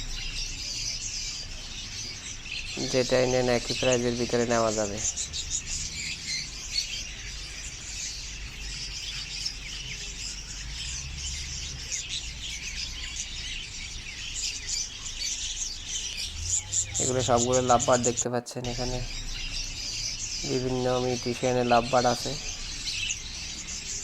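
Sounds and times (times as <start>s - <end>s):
lovebirds chirping and chattering: 0.0s - 24.0s.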